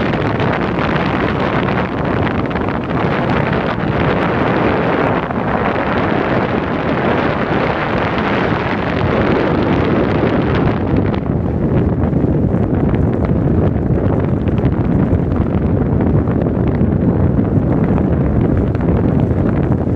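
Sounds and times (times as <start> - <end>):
boat running noise: 0.0 - 19.9
wind buffeting microphone: 0.0 - 19.9.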